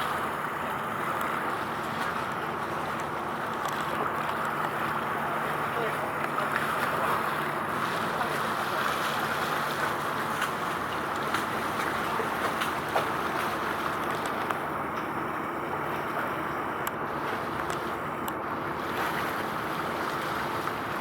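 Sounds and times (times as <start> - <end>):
water: 0.0 - 21.0
wind: 0.0 - 21.0.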